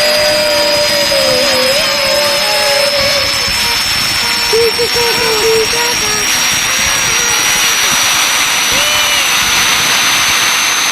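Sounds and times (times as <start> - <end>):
high whine rising in pitch: 0.0 - 10.9
machine rushing roar: 0.0 - 10.9.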